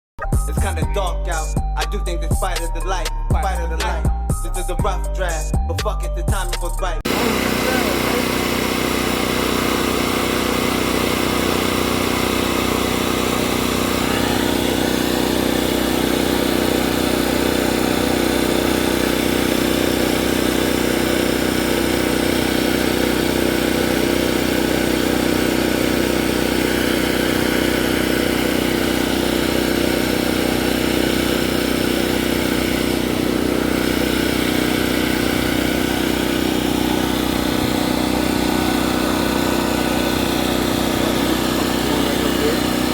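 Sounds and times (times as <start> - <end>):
engine idling hum: 0.2 - 42.9.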